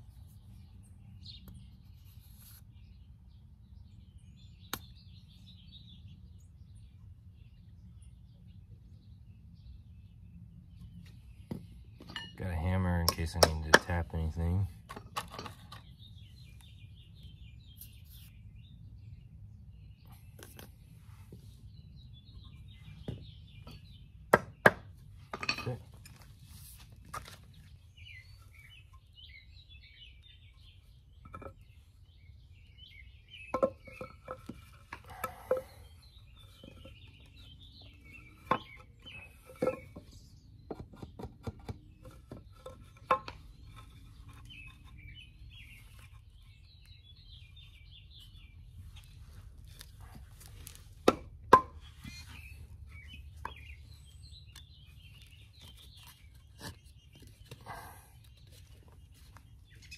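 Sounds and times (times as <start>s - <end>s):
birds chirping faintly: 0.0s - 59.9s.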